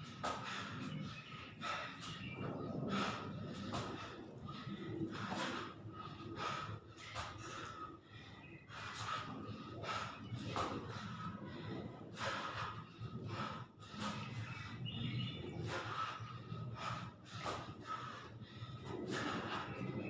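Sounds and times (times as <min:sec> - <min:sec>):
man breathing hard: 0:00.0 - 0:20.0.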